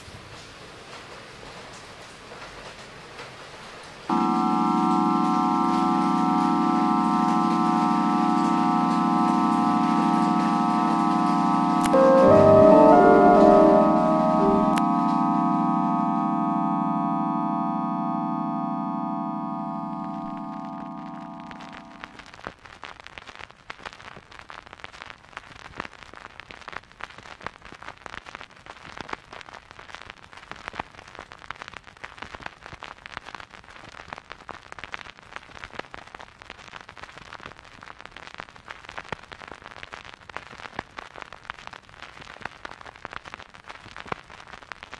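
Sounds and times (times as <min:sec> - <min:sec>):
vinyl record crackle: 0:00.1 - 0:44.9.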